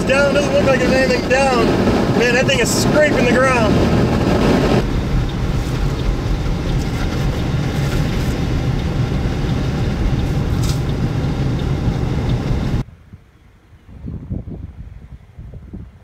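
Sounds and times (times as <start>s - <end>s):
heavy low rumble: 0.0s - 12.9s
road and wind noise in car: 0.0s - 16.0s.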